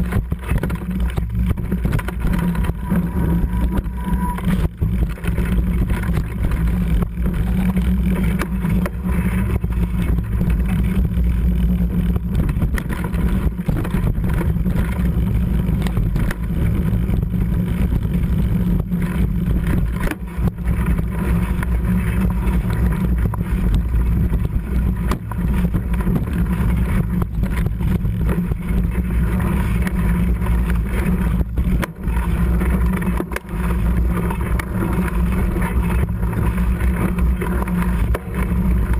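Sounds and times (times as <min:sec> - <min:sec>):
bike tyre noise: 0:00.0 - 0:38.9.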